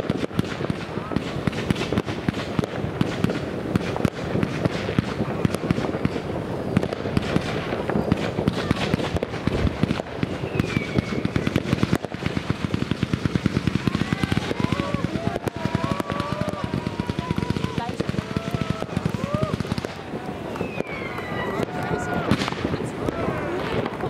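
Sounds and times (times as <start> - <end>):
fireworks popping rapidly: 0.0 - 24.0.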